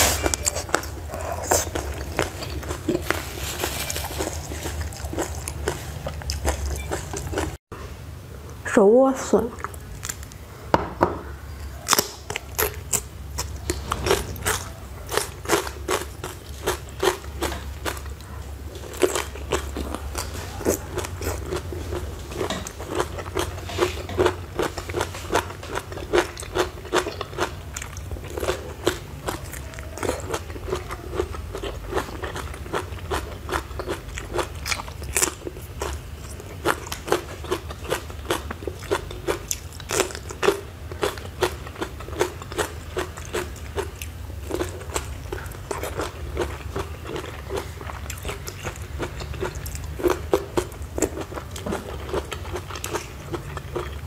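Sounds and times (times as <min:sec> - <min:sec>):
crunchy biting and chewing: 0:00.0 - 0:07.6, 0:09.6 - 0:10.4, 0:11.5 - 0:54.0.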